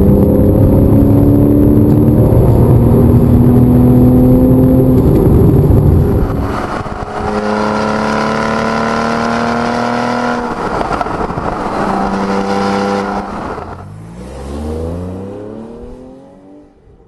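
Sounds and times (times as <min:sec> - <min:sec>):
car exhaust note rising: 0:00.0 - 0:17.0.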